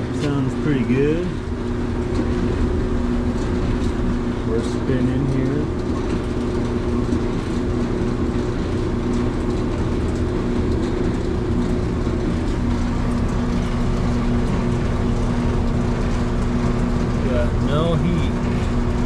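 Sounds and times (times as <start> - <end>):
clothes dryer running: 0.0 - 19.0.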